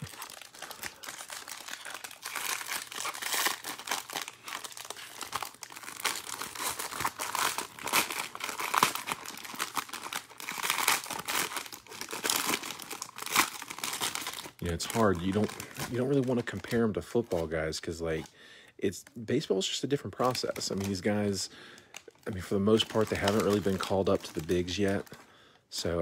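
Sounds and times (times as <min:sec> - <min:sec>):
foil wrapper crinkling and tearing: 0:00.0 - 0:17.5, 0:20.1 - 0:25.2.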